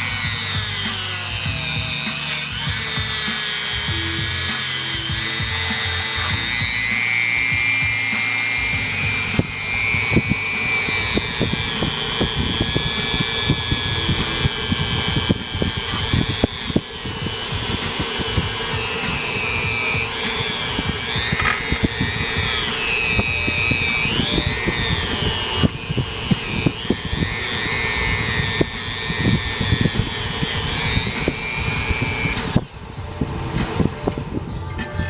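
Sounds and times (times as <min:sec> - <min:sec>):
rotary tool whining: 0:00.0 - 0:35.0
wire wheel scraping and ticking: 0:04.9 - 0:34.4.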